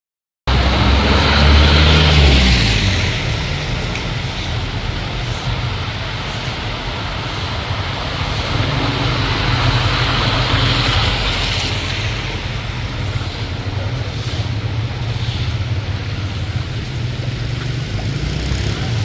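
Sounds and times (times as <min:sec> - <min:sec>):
engine-like drone: 0:00.5 - 0:19.0
rushing hiss: 0:00.6 - 0:19.0.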